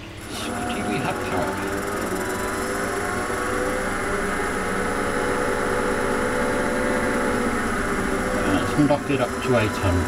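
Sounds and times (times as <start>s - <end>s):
wood lathe motor hum and whine: 0.0s - 10.0s.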